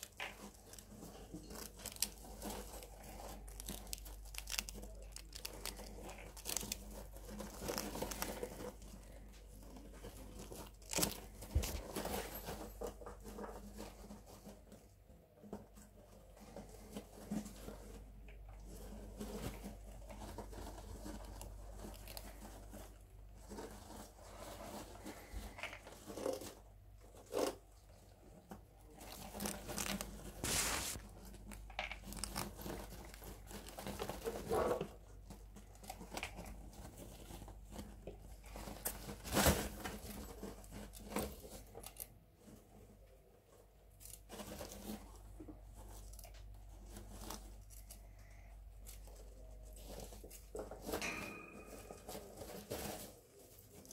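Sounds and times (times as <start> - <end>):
rats scrabbling in wood shavings: 0.0 - 53.9.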